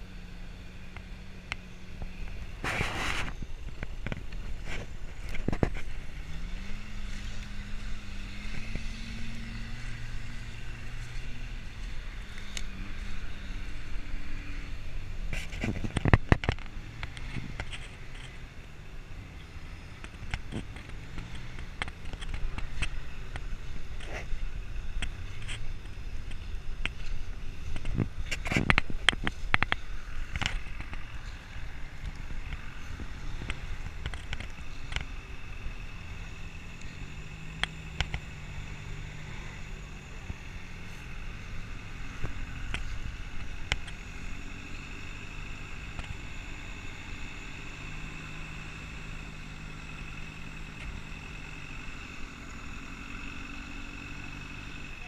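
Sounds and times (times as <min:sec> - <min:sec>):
engine running under changing load: 0:00.0 - 0:55.0.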